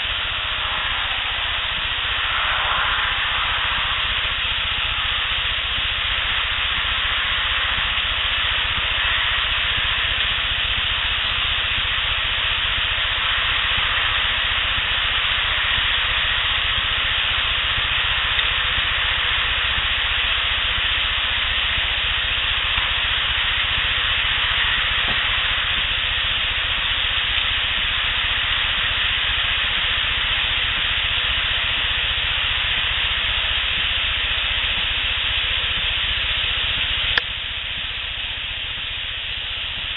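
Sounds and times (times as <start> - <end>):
steady recorder hiss: 0.0 - 39.9.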